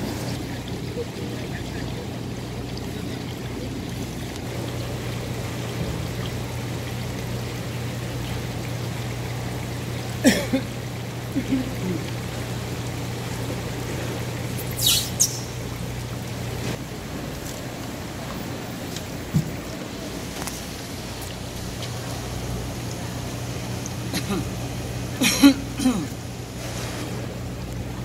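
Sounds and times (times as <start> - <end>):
water trickling in tanks: 0.0 - 28.0.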